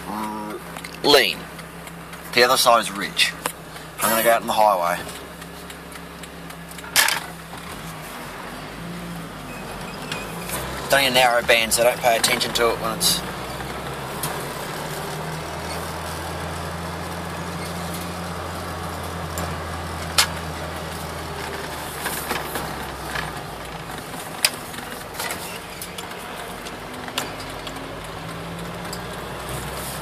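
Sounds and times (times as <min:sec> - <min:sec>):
engine droning: 0:00.0 - 0:30.0
road noise: 0:00.0 - 0:30.0.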